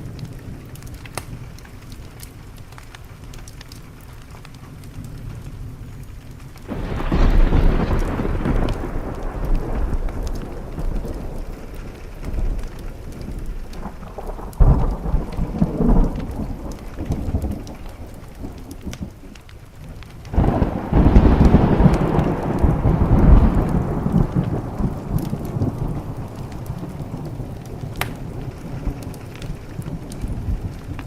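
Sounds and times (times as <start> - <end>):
steady rain: 0.0 - 31.0
thunder rumbling: 0.0 - 31.0.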